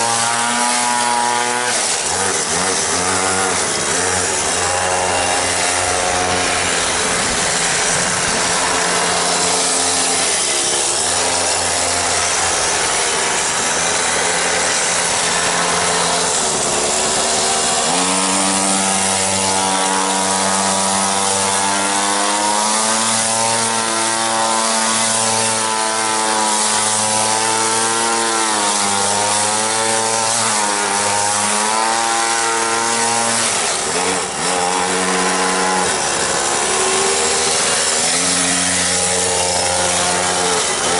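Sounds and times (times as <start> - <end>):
small engine idling and revving: 0.0 - 40.9.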